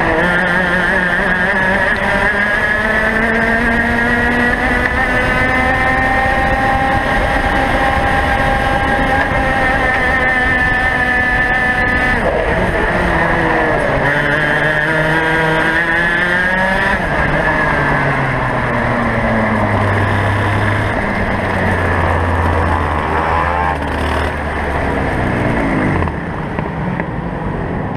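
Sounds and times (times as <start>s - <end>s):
kart engine revving: 0.0s - 26.7s.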